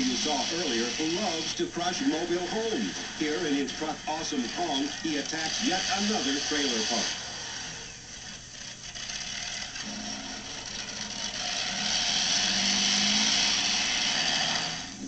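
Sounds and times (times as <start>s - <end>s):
monster truck engine running: 0.0s - 15.0s.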